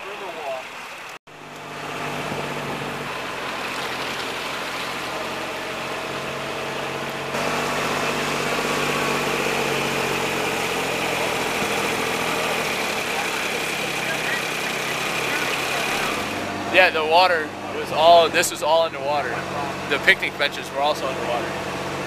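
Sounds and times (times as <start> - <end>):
utility vehicle engine running: 0.9 - 22.0.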